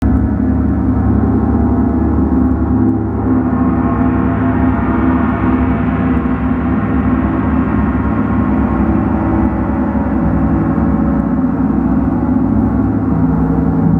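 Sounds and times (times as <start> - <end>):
gong drone: 0.0 - 13.9.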